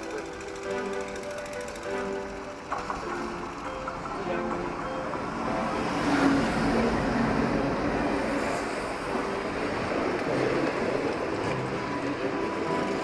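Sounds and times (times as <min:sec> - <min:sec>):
train rattling over rails: 0:00.0 - 0:13.0.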